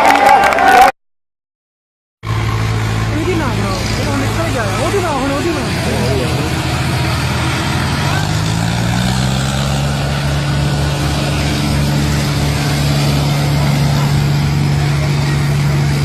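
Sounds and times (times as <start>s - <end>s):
low pulsing: 2.2s - 16.0s
tractor engine running: 2.2s - 16.0s.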